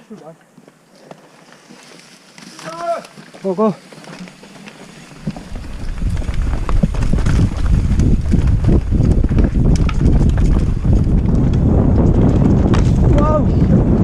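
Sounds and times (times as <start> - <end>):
bike tyres rattling over rocks: 0.6 - 14.0.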